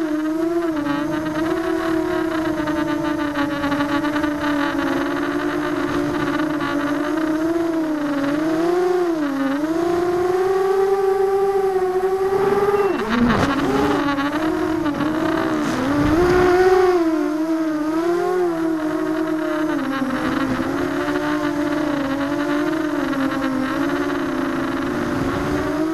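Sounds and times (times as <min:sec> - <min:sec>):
quadcopter motors whining: 0:00.0 - 0:25.9.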